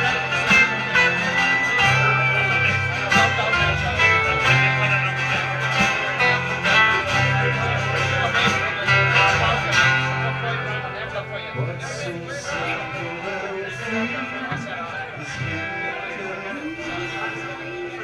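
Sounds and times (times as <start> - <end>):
fiddle and guitar music: 0.0 - 18.0.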